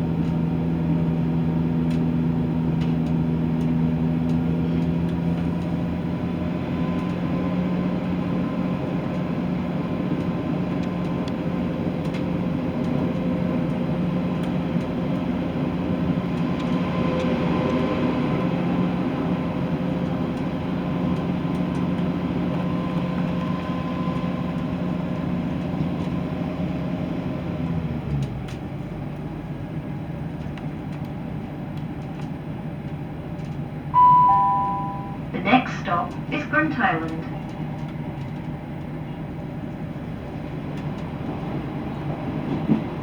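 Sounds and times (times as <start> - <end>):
wheel and track rumble: 0.0 - 33.9, 35.8 - 43.0.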